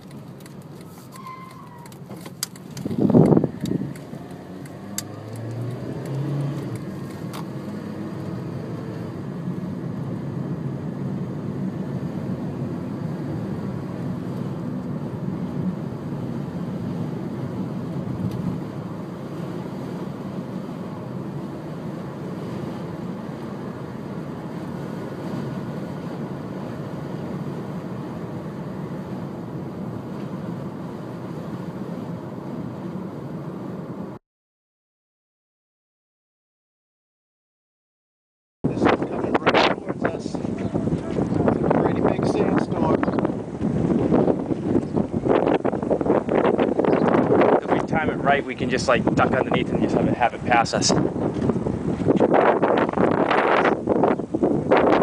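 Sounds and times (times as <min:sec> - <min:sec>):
car interior rumble: 0:00.0 - 0:34.2, 0:38.7 - 0:55.0.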